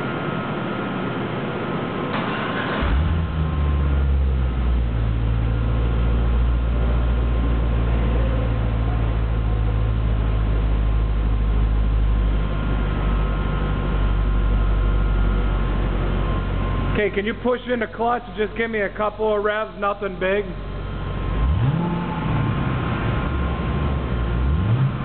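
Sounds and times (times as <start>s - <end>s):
car engine starting and idling: 0.2s - 25.0s.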